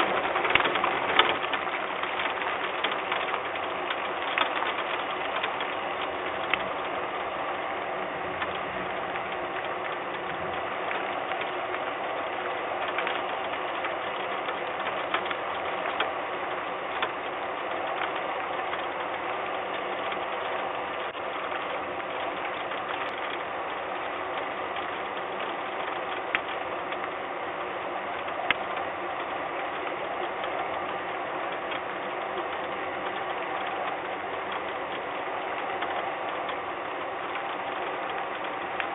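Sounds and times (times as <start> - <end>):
sharp ticks: 0.0 - 7.0, 8.4 - 27.2, 28.2 - 38.9
steady noise: 0.0 - 38.9.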